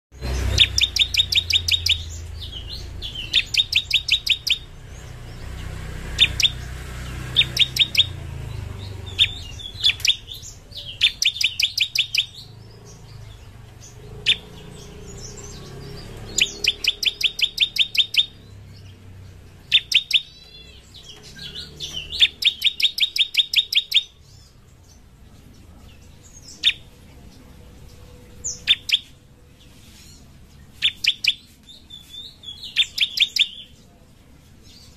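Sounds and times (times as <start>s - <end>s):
bird singing rapid high notes: 0.1s - 25.0s, 27.8s - 33.8s.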